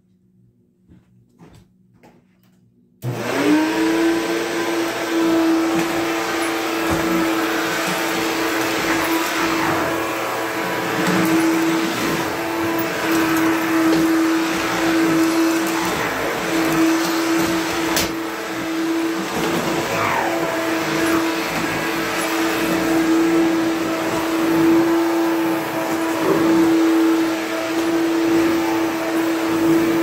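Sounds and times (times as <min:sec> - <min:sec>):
vacuum cleaner running: 0:03.0 - 0:30.0.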